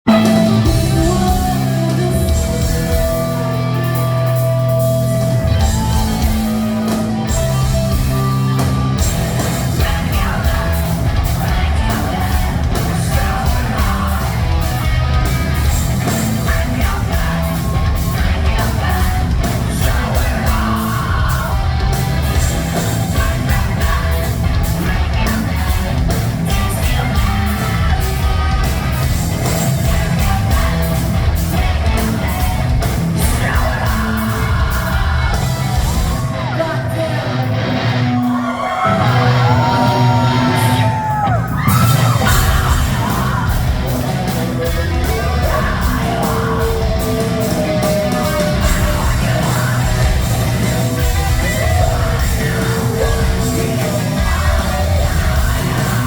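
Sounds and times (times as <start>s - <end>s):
drums: 0.0s - 56.0s
post-hardcore rock band playing: 0.0s - 56.0s
sung and shouted vocals: 0.1s - 56.0s.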